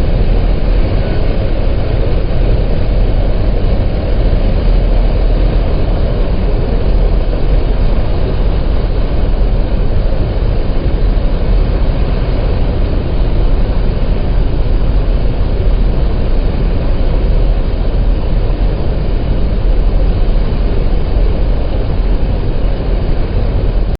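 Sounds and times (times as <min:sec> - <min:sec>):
boat engine rumble: 0:00.0 - 0:23.9.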